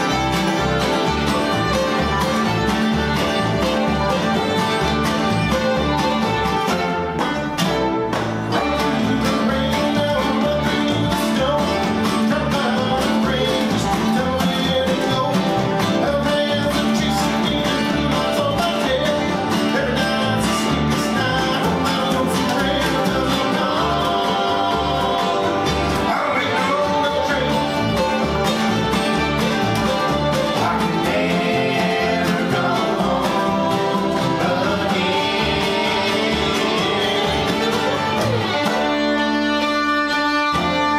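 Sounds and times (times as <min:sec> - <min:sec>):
bluegrass band playing: 0:00.0 - 0:40.9.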